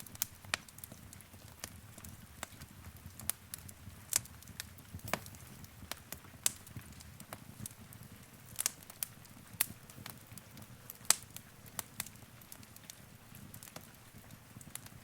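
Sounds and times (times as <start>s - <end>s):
low rumble of burning logs: 0.0s - 15.0s
wood fire popping and snapping: 0.0s - 15.0s.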